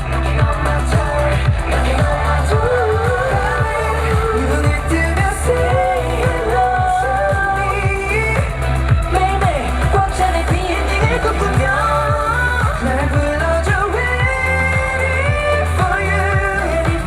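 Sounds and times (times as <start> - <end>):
pop dance song with vocals: 0.0 - 17.0.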